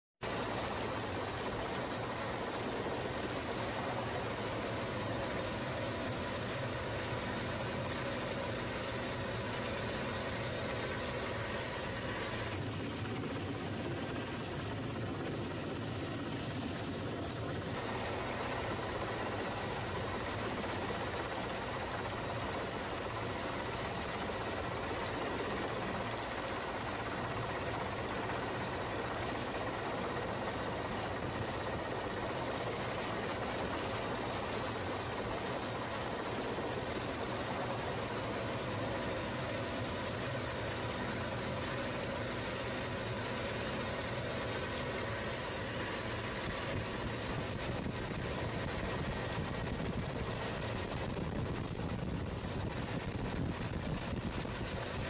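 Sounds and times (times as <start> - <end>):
helicopter rotor drone: 0.2 - 55.0.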